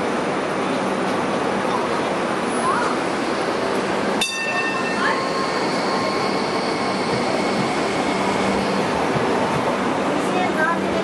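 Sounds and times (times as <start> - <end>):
train rumbling past on track: 0.0 - 11.0.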